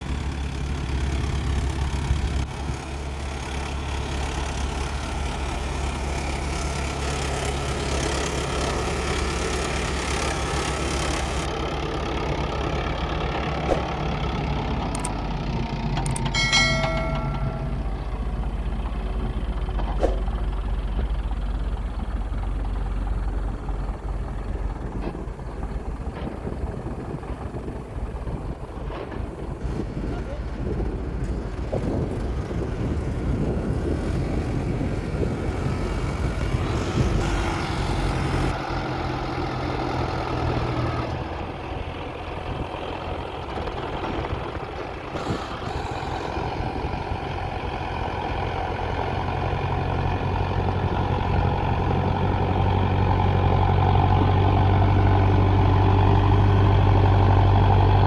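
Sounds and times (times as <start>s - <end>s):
heavy machinery diesel engines rumbling: 0.0s - 58.0s.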